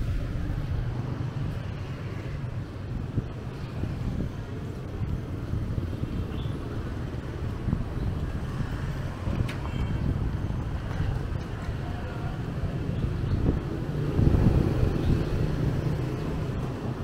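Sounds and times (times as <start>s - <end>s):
low rumble of passing vehicles: 0.0s - 17.0s.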